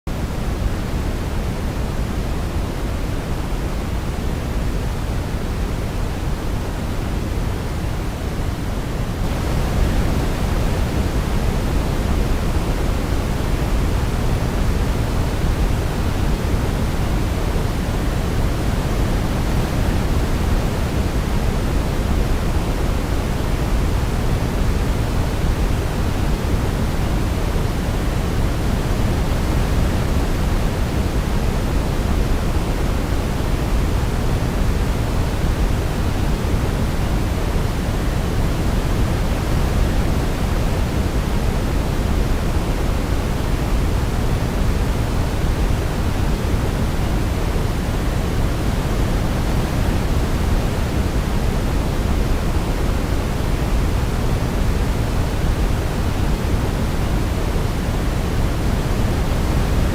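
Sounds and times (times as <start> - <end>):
white noise hiss: 0.1 - 59.9.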